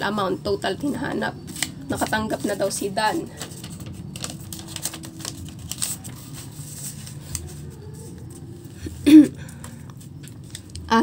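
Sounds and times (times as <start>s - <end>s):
paper rustling and crinkling: 1.4s - 11.0s.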